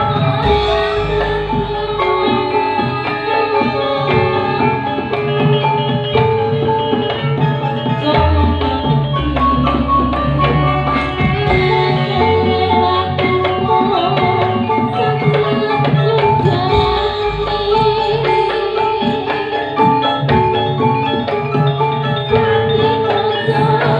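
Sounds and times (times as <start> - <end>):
bass line: 0.0 - 19.2
hand drum rhythm: 0.0 - 23.9
sustained melody notes: 0.0 - 23.9.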